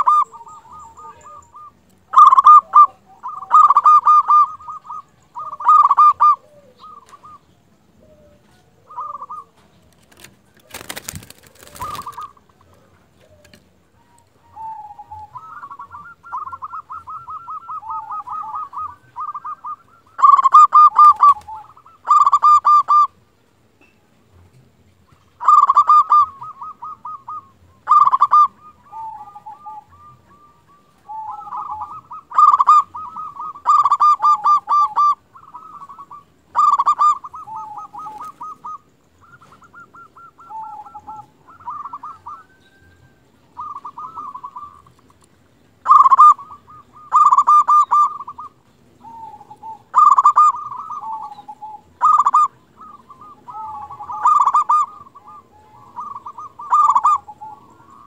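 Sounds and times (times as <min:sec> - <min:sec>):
dove cooing: 0:00.0 - 0:23.2, 0:25.1 - 0:58.0.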